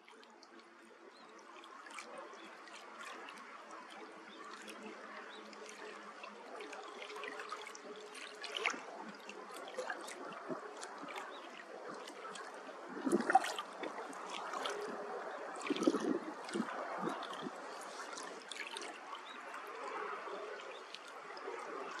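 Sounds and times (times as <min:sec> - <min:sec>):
water lapping against rock: 0:01.1 - 0:22.0.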